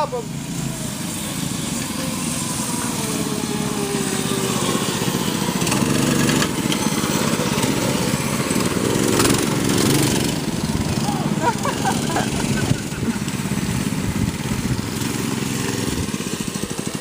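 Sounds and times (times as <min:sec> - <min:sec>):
mini bike engines running: 0:00.0 - 0:17.0.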